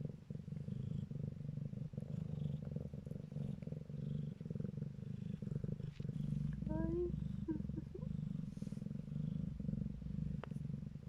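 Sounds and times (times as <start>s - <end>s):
kittens purring: 0.0s - 11.0s.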